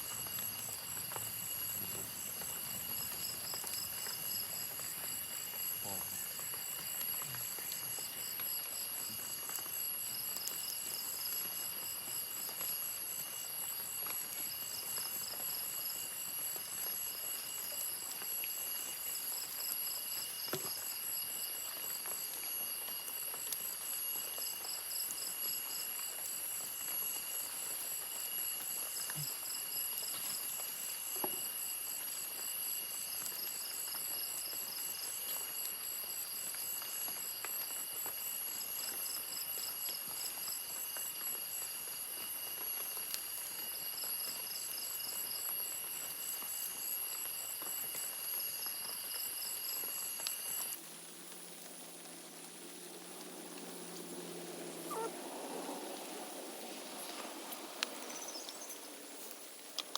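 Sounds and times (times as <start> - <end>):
night insects chirping: 0.0 - 59.9.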